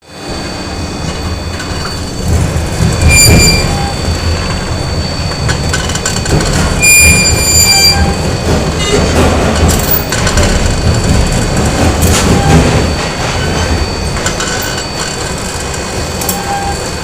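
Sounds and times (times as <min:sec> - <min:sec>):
machinery low rumble: 0:00.0 - 0:17.0
loud metallic squeals: 0:00.1 - 0:17.0.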